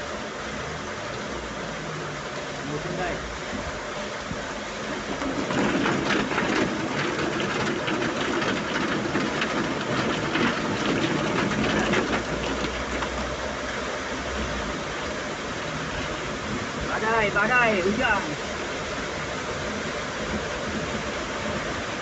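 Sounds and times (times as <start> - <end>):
heavy rain: 0.0 - 22.0
vehicle engine and road noise: 0.0 - 22.0.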